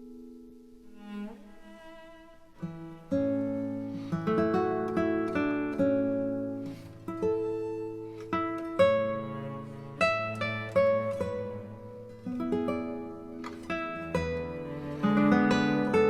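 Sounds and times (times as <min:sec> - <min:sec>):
low sustained strings: 0:00.0 - 0:16.0.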